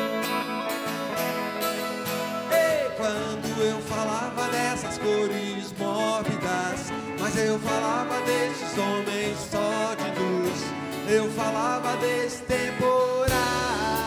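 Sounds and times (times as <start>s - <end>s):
live pop-rock band playing: 0.0s - 14.0s
man singing: 2.3s - 14.0s.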